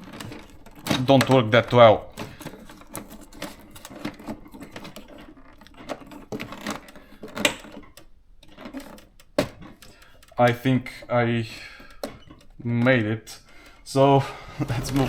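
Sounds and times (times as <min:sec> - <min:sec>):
thermal typewriter printing ticks: 0:00.0 - 0:15.0.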